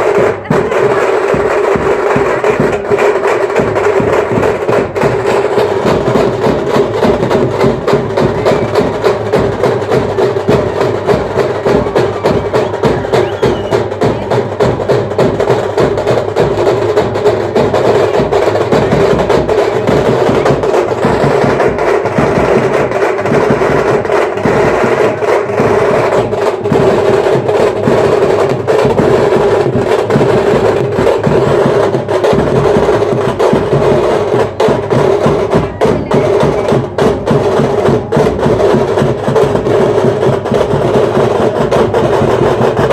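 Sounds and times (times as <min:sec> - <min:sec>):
fast street band drumming: 0:00.0 - 0:42.9
sharp drum strokes: 0:00.0 - 0:42.9.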